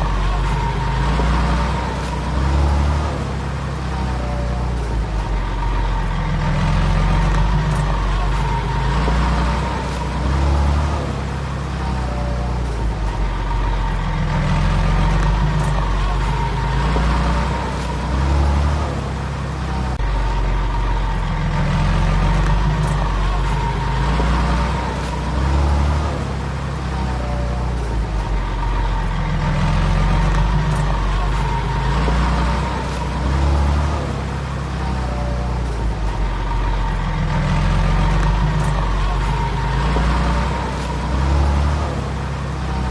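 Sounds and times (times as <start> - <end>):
heavy diesel engine rumbling: 0.0 - 42.9.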